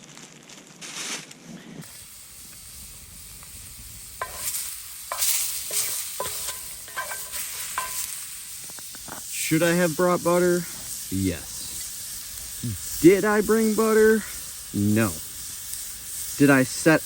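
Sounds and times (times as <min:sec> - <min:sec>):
steaks sizzling over a campfire: 0:01.8 - 0:17.0.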